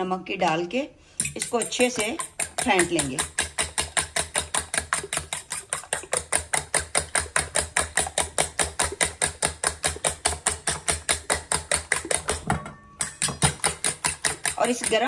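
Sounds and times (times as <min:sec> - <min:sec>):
fork whisking eggs in metal bowl: 0:01.2 - 0:15.0.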